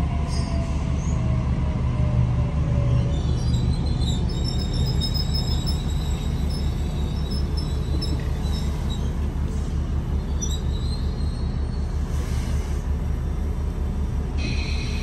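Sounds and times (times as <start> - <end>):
electric train pulling in: 0.0 - 15.0.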